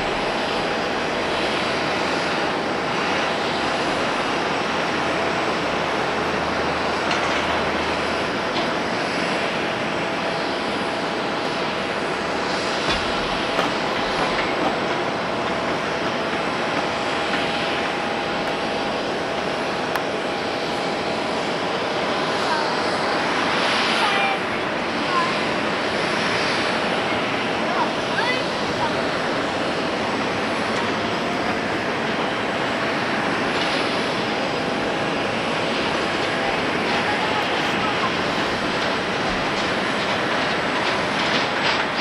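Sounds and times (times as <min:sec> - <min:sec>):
distant jet engines rushing: 0:00.0 - 0:42.0.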